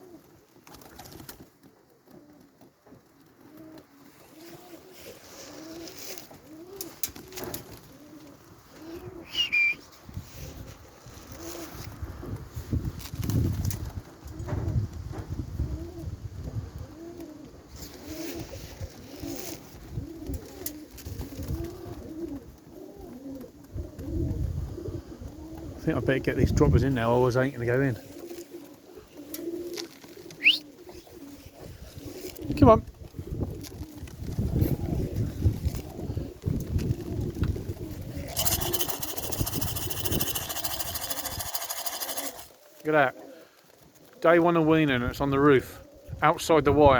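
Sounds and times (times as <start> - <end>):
pigeons cooing: 0.0 - 1.3, 1.9 - 11.9, 15.4 - 25.8, 27.8 - 44.2, 45.7 - 46.2.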